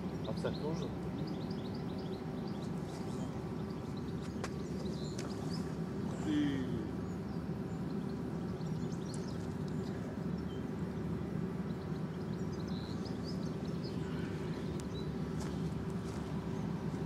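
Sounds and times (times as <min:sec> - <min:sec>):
low outdoor rumble: 0:00.0 - 0:17.0
small birds chirping faintly: 0:00.0 - 0:17.0.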